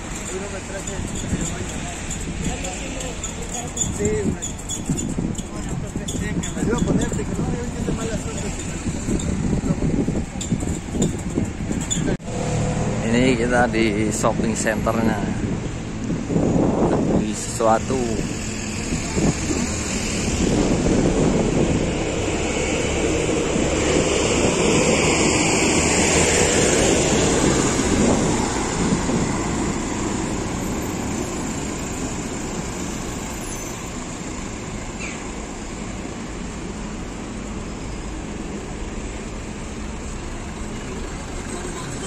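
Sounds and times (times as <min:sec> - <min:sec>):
passing motor vehicle: 0:00.0 - 0:42.0.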